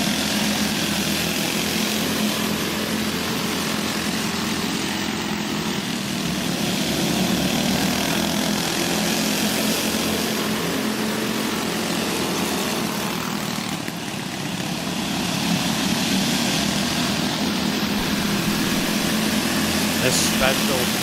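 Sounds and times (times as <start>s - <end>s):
go-kart engines racing: 0.0s - 21.0s.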